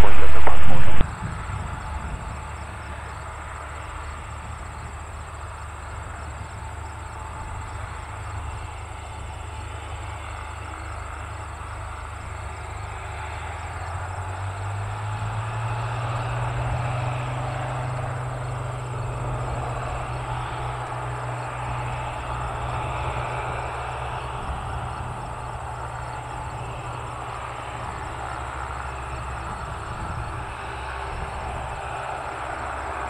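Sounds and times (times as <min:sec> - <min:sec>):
propeller plane engine running: 0:00.0 - 0:33.0.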